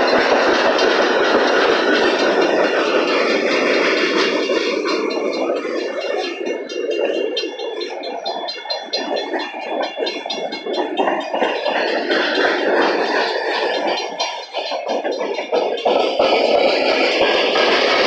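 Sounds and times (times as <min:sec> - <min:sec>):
freight cars rumbling and rattling: 0:00.0 - 0:18.0
grade crossing bell ringing: 0:00.0 - 0:18.0.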